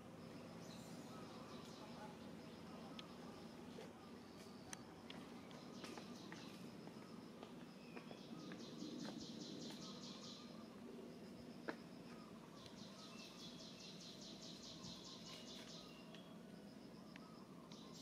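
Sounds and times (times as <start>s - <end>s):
insect pulsing trill: 0.0s - 18.0s.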